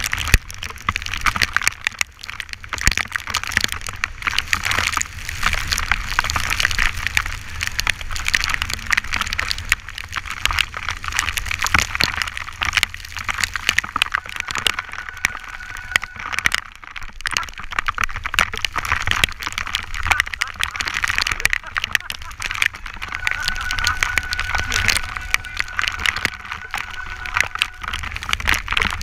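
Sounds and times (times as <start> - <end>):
bicycle tyres hissing on wet road: 0.0 - 29.0
rain pattering on camera housing: 0.0 - 29.0
wind rumble on microphone: 0.0 - 29.0.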